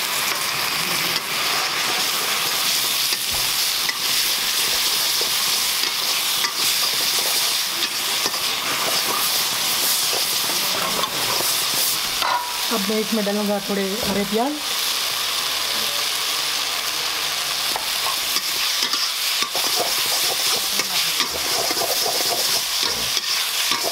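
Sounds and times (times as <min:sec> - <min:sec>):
food sizzling in a hot wok: 0:00.0 - 0:23.9.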